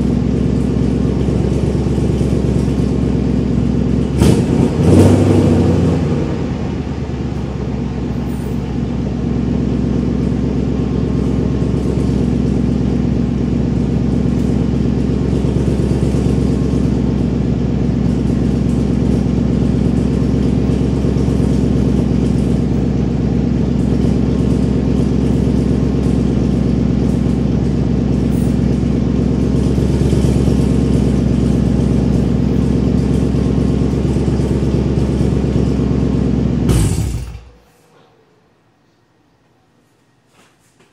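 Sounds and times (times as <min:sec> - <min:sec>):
car engine idling: 0:00.0 - 0:37.7.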